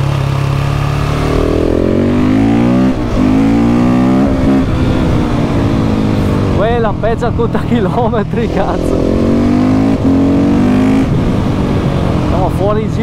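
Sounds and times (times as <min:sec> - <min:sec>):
motorcycle engine revving through gears: 0:00.0 - 0:13.0.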